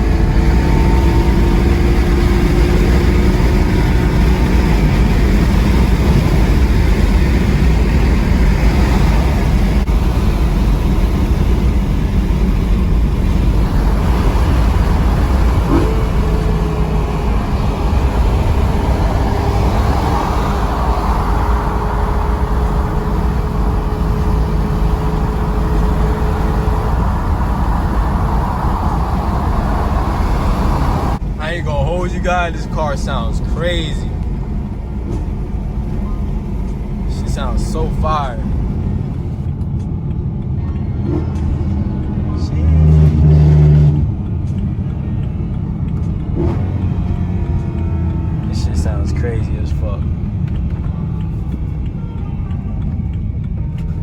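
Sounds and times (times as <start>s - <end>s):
deep engine exhaust note: 0.0s - 54.0s.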